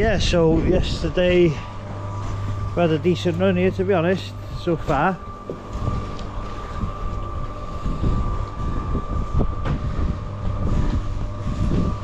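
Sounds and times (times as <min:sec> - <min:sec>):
constant high whine: 0:00.0 - 0:12.0
low machinery rumble: 0:00.0 - 0:12.0.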